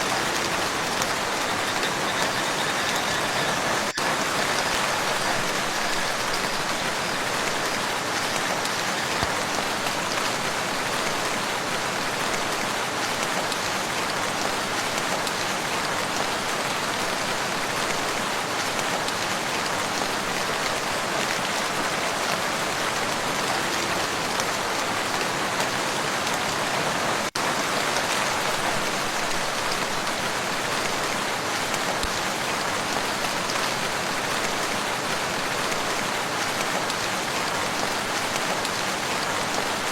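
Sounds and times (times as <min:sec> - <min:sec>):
rain falling on a lake: 0:00.0 - 0:39.9.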